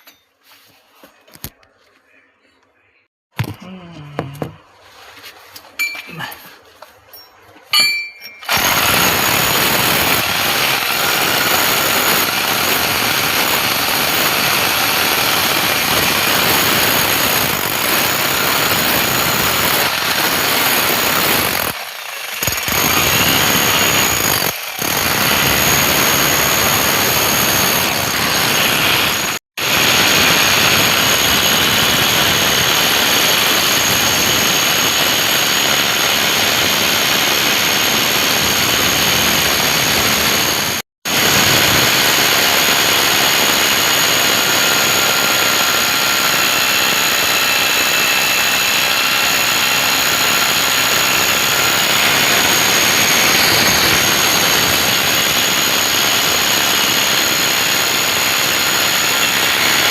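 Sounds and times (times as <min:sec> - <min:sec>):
loud machine running: 0:08.4 - 0:59.9.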